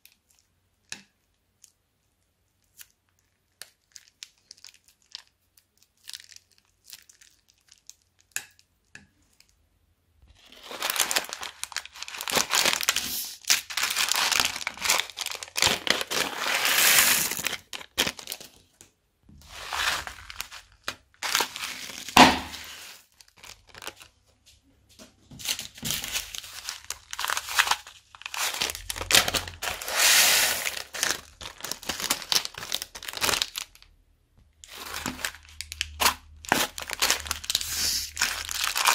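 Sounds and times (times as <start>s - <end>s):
plastic bags crinkling and tearing: 2.6s - 8.6s, 10.3s - 18.8s, 19.4s - 24.1s, 25.4s - 33.9s, 34.6s - 38.9s.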